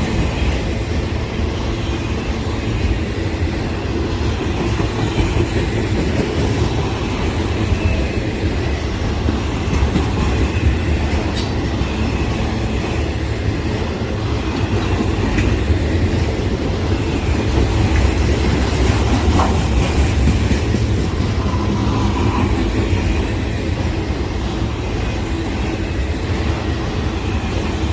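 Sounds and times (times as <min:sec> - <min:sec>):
rhythmic clacking over rail joints: 0:00.0 - 0:27.9
train wheels rumbling on rails: 0:00.0 - 0:27.9.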